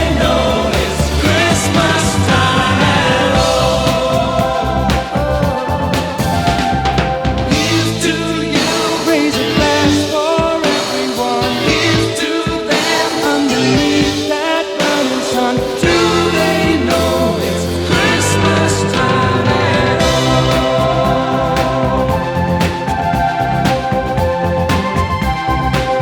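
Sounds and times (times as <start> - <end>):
pop song with singing: 0.0 - 26.0.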